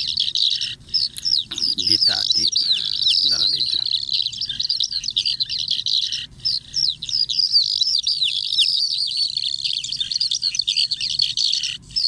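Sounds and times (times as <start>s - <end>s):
recorded bird chirps: 0.0s - 12.0s.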